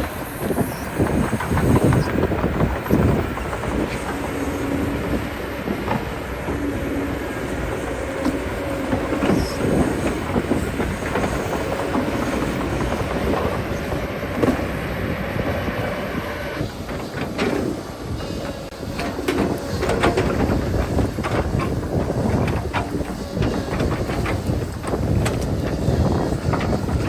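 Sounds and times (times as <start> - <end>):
excavator running: 0.0 - 27.0.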